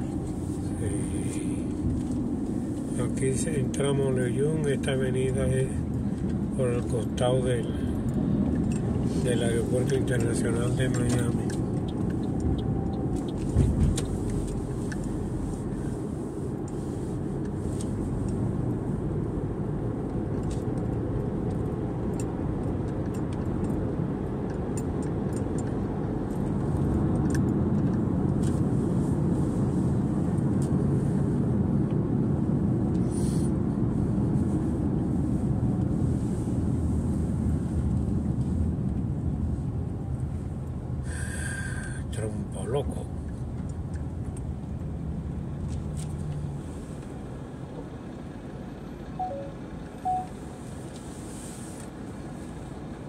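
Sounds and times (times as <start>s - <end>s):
road and engine noise inside car: 0.0s - 53.0s.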